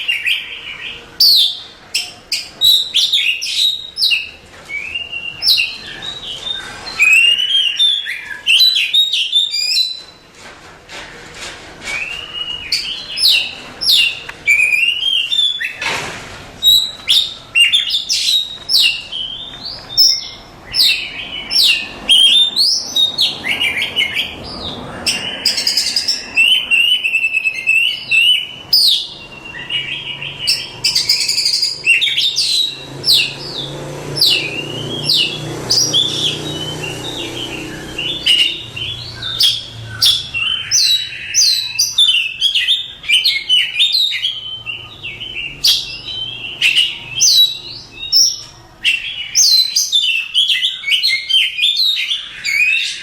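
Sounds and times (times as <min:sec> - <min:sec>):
magpie-robin singing whistles: 0:00.0 - 0:10.2, 0:11.9 - 0:15.8, 0:16.6 - 0:24.4, 0:25.0 - 0:33.6, 0:34.2 - 0:53.0.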